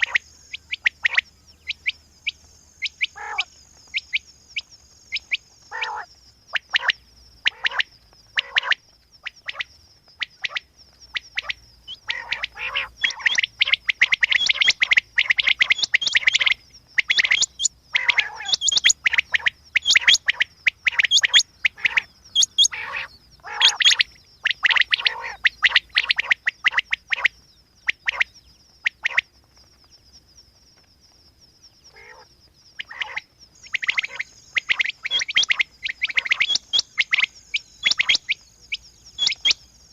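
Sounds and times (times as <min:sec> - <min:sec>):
quail chirping: 0:00.0 - 0:30.0, 0:31.8 - 0:39.9.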